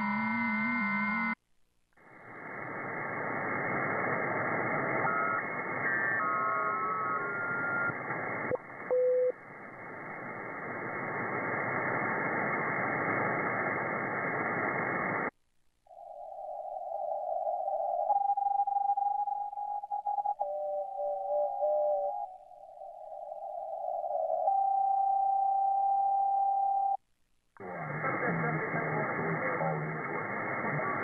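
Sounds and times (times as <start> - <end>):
radio static hiss: 2.0 - 24.5, 27.6 - 31.0.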